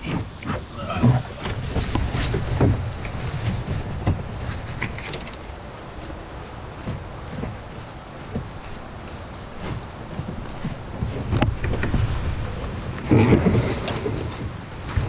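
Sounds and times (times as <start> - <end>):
hollow knocks and scraping of canoe: 0.0 - 15.0
low rumble of handling noise: 0.0 - 15.0.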